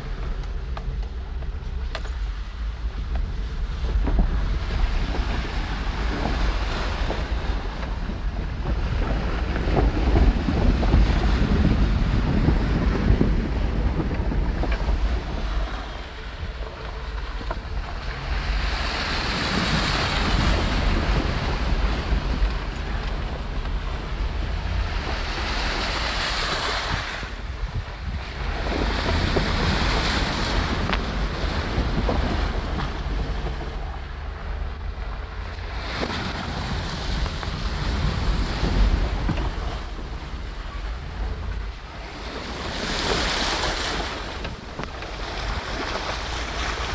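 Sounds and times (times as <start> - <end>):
truck engine and tyres rumbling: 0.0 - 46.9
water sloshing against truck: 0.0 - 46.9
wind noise on microphone: 0.0 - 46.9.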